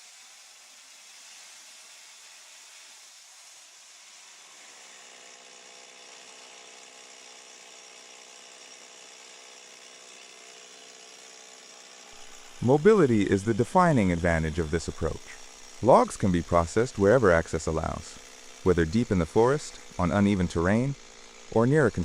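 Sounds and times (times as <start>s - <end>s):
faint chainsaw whine: 4.2s - 22.0s.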